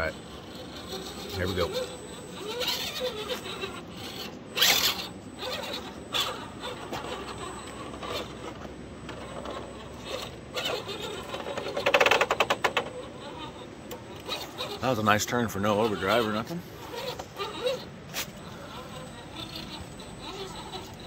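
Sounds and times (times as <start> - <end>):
rc car drivetrain whirring: 0.0 - 21.0.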